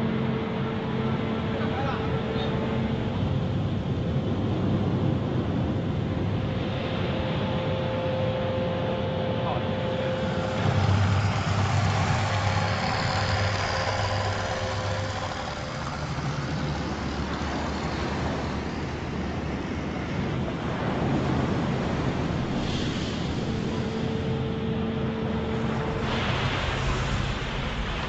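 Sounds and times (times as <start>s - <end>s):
machinery drone: 0.0s - 28.0s.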